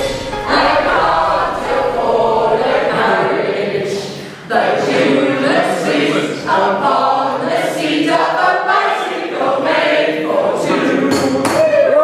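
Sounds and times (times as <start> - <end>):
group singing unaccompanied: 0.0 - 11.6.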